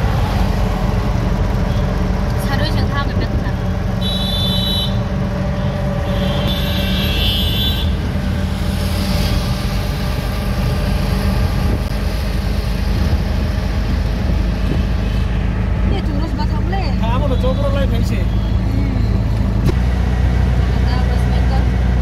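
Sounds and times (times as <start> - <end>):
auto-rickshaw engine running: 0.0 - 22.0
road noise: 0.0 - 22.0.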